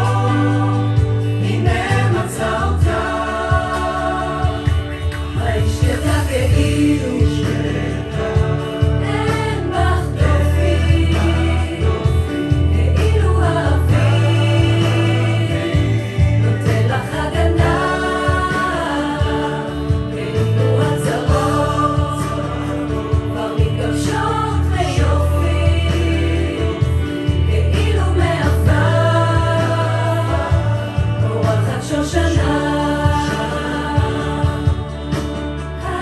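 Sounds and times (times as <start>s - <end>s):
choir singing in harmony: 0.0s - 36.0s.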